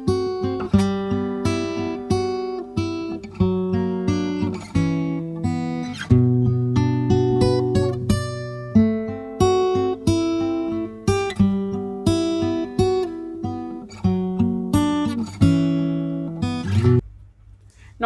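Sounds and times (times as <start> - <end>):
acoustic guitar melody: 0.0 - 17.1.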